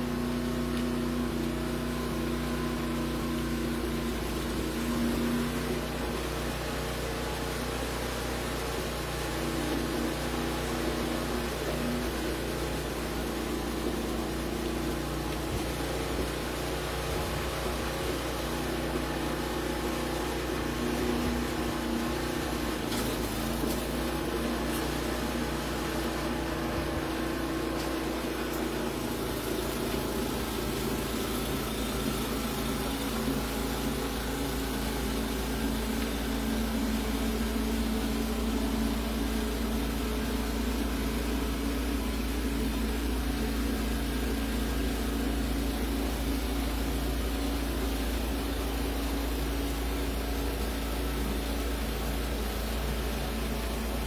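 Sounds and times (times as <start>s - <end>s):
motor humming: 9.4s - 54.0s.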